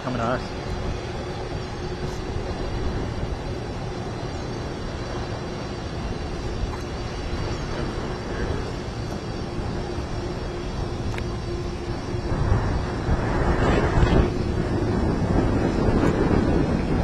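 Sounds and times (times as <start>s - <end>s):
aircraft engines rumbling: 0.0s - 17.0s.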